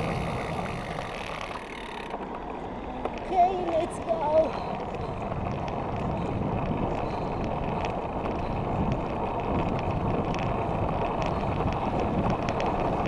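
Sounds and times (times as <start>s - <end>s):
wind buffeting microphone: 0.0s - 1.6s, 2.3s - 13.0s
bike tyres rumbling on tarmac: 0.0s - 13.0s.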